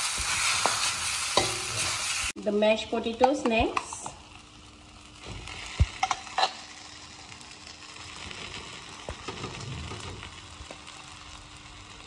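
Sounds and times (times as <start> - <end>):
faint sizzling in a pan: 0.0 - 12.0.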